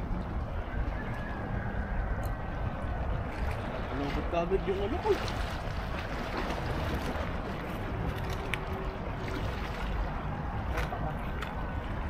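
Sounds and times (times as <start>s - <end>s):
sea water at the shore: 0.0s - 12.0s
wind: 0.0s - 12.0s.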